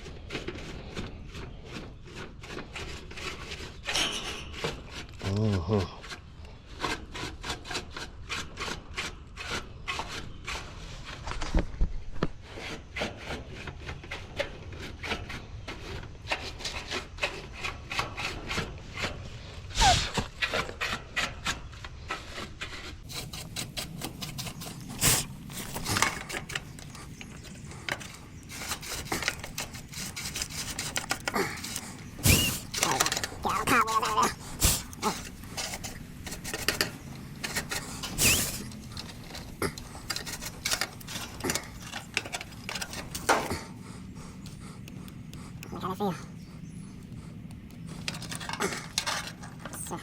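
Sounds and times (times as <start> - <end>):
rapid rasping scrubbing: 0.0 - 11.3, 12.4 - 50.0.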